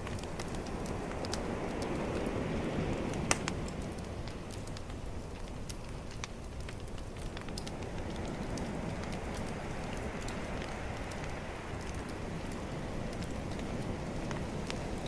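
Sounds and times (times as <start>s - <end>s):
bonfire crackling and popping: 0.0s - 15.0s
calm ocean waves: 0.0s - 15.0s.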